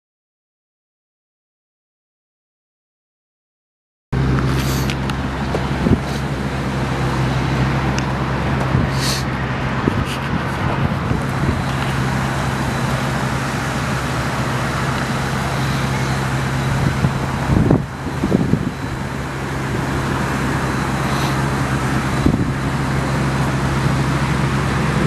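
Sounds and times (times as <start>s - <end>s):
truck engine idling: 4.2s - 25.0s.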